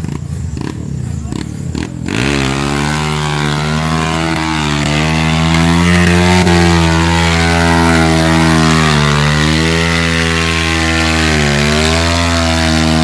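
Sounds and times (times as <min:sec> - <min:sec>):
vehicle engine at high revs: 0:00.0 - 0:13.0.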